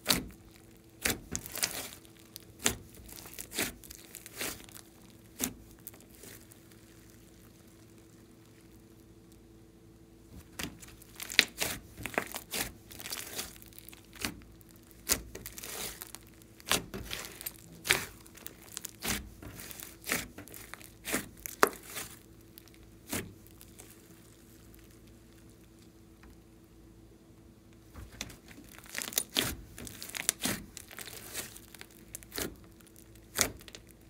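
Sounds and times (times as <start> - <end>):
slime squelching: 0.0 - 9.5, 10.3 - 26.5, 27.8 - 34.0.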